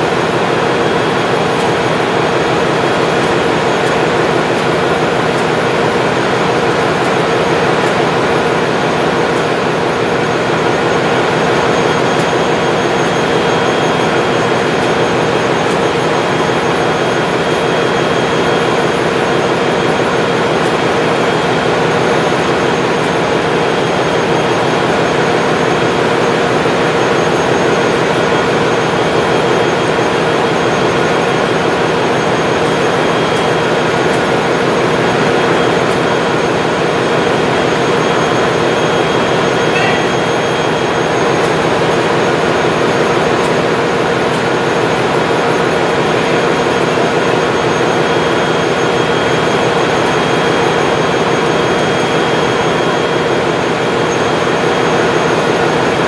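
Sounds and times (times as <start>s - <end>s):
engine room machinery drone: 0.0s - 56.0s
machinery whining tones: 0.0s - 56.0s.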